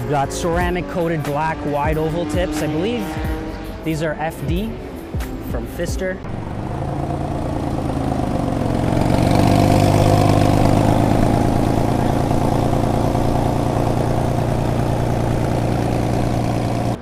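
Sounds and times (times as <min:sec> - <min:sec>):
car engine at low revs passing: 0:00.0 - 0:17.0.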